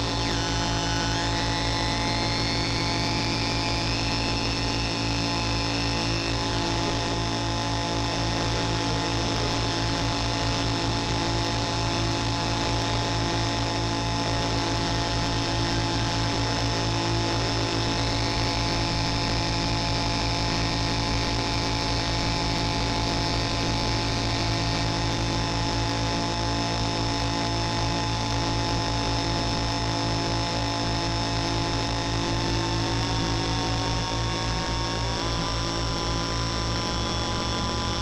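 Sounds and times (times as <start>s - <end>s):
buzzing synthesizer drone: 0.0s - 38.0s.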